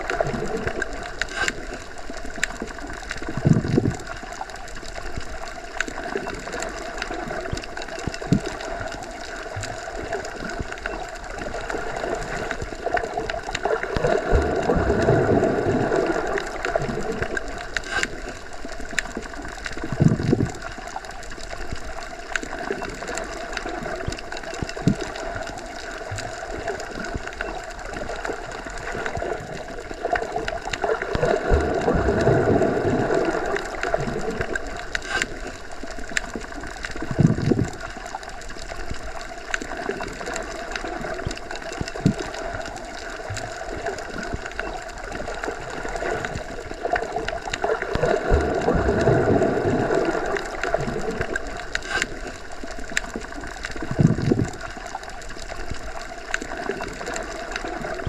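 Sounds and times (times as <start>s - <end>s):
faint clicks: 0.0s - 15.4s, 16.0s - 32.6s, 33.2s - 49.1s, 50.0s - 58.0s
muffled underwater rush: 0.0s - 58.0s.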